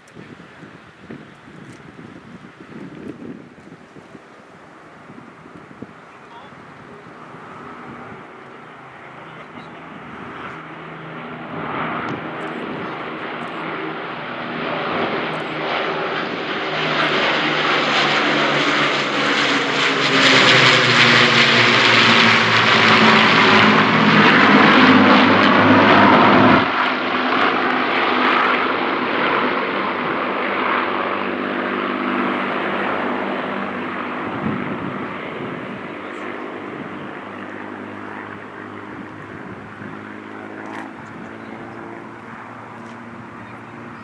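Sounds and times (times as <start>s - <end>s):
propeller aircraft droning past: 0.0s - 44.0s.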